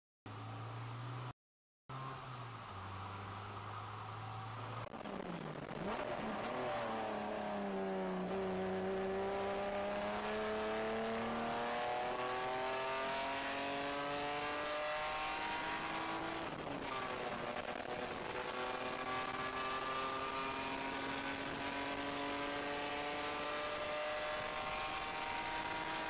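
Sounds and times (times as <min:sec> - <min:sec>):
race car engine accelerating: 0:01.9 - 0:26.0.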